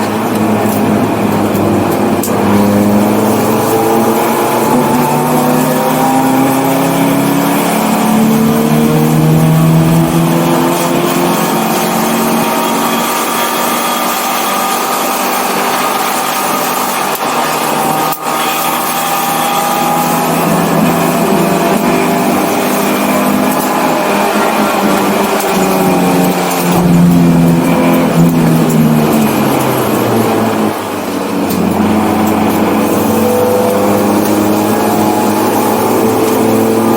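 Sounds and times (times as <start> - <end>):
race car engine revving: 0.0 - 36.9.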